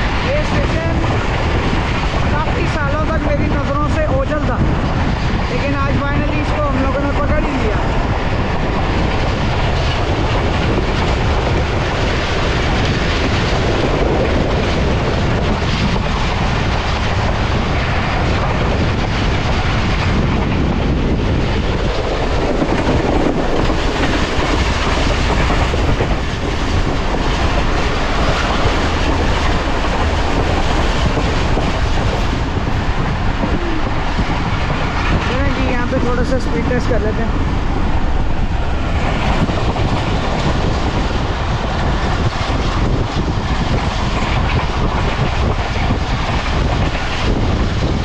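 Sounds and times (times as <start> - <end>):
train wheels rumbling and rattling: 0.0 - 48.0.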